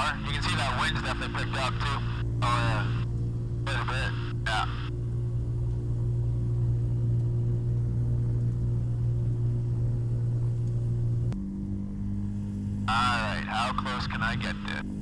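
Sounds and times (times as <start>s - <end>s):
two-stroke aircraft engine running: 0.0s - 15.0s.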